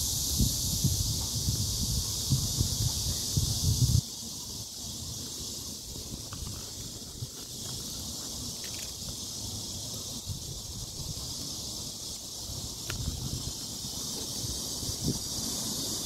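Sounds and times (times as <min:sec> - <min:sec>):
high-pitched hiss: 0:00.0 - 0:16.0
wind rumbling on microphone: 0:00.0 - 0:16.0.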